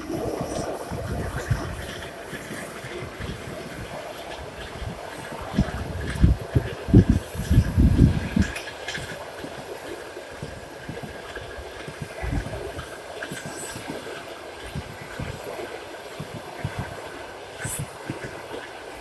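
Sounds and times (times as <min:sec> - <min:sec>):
train wheels clattering over rails: 0:00.0 - 0:19.0.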